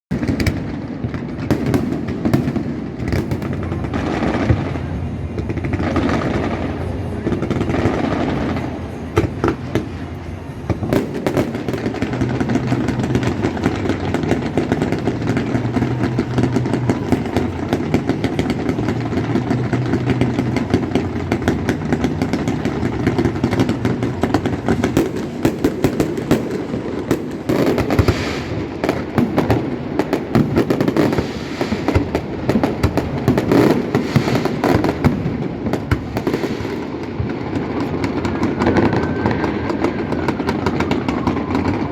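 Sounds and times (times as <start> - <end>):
fireworks crackling: 0.1 - 41.9.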